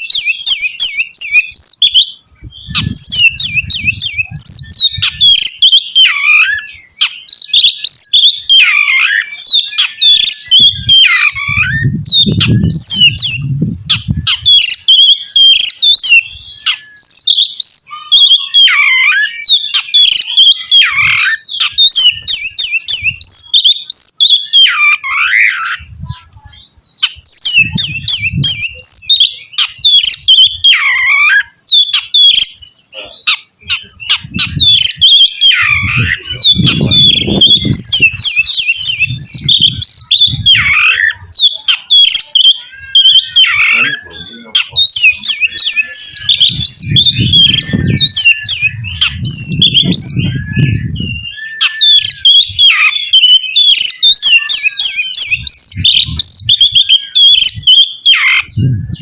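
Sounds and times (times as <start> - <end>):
bird singing whistles and chatter: 0.0 - 59.0.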